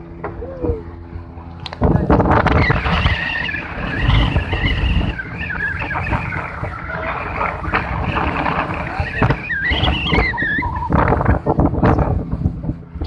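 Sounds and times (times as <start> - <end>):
boat engine rumble: 0.0 - 13.0
water churning and slapping hull: 0.0 - 13.0.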